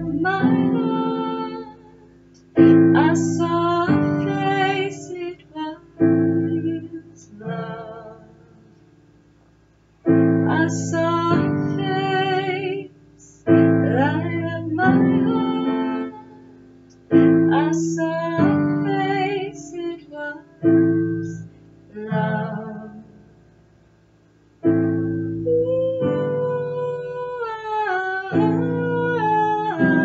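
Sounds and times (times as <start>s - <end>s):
woman singing: 0.0s - 8.6s, 10.1s - 16.5s, 17.1s - 23.3s, 25.3s - 30.0s
piano chords ringing: 0.0s - 9.3s, 10.0s - 30.0s.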